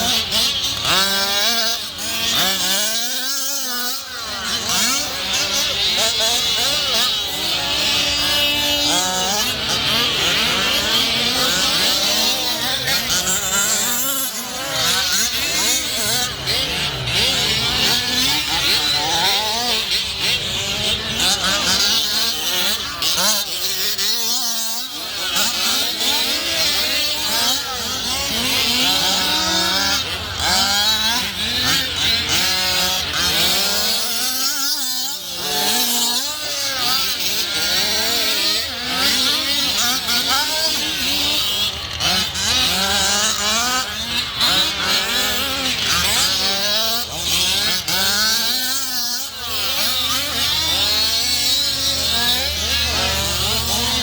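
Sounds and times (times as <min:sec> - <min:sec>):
small two-stroke engines revving: 0:00.0 - 0:54.0.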